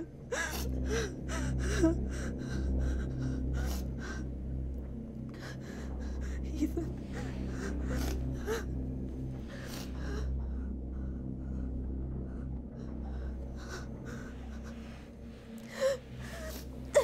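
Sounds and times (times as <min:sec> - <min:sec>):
low hum: 0:00.0 - 0:17.0
woman breathing heavily: 0:00.2 - 0:17.0.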